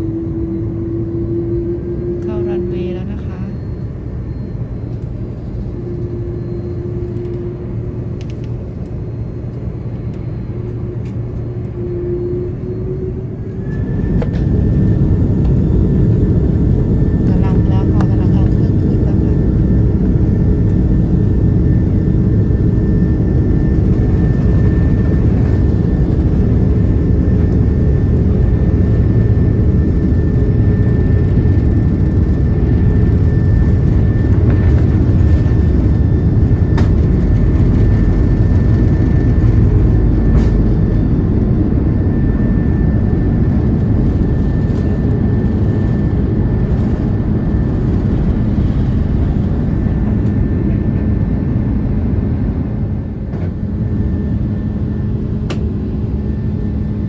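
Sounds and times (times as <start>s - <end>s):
faint high whine: 0.0s - 51.2s
vehicle rumble in motion: 0.0s - 57.0s.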